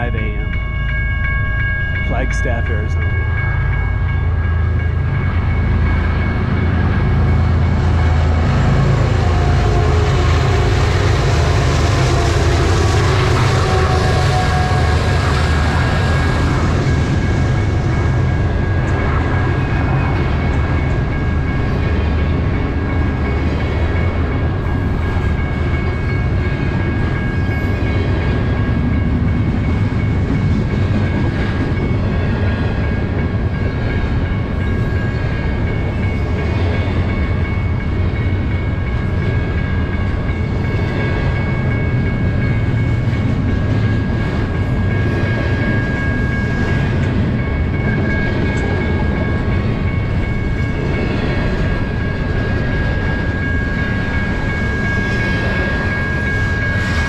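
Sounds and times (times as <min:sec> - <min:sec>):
crossing bell ringing: 0:00.0 - 0:57.0
freight train rumbling: 0:00.0 - 0:57.0.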